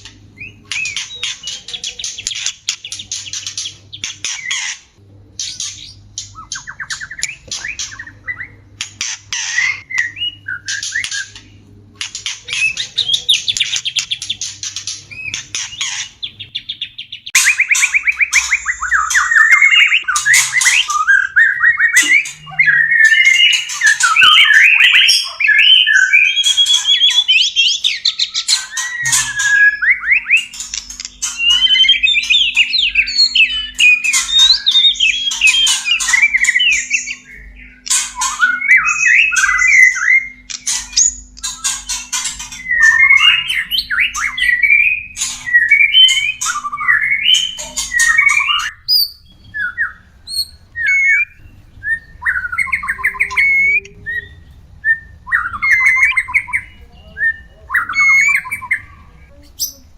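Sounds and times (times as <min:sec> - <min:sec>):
bird whistled song: 0:00.0 - 0:04.8, 0:05.4 - 0:11.6, 0:12.3 - 0:59.9
bird rasping calls and trills: 0:00.0 - 0:59.9.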